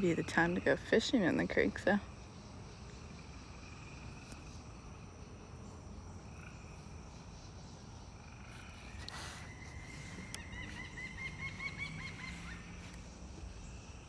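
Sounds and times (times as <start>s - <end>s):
frogs and insects chorus: 0.0s - 14.0s.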